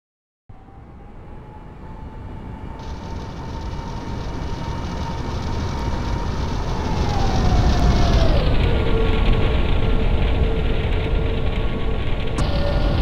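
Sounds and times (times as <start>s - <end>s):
aircraft engine whine: 0.5s - 13.0s
aircraft rumble: 0.5s - 13.0s.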